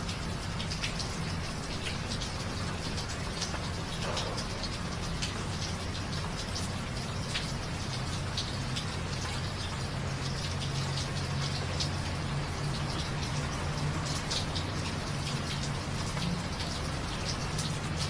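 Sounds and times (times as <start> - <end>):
raindrops pattering: 0.0 - 18.0
steady rain falling: 0.0 - 18.0.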